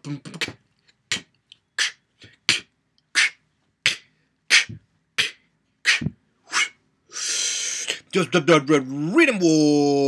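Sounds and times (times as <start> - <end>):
beatboxing mouth percussion: 0.0 - 8.1.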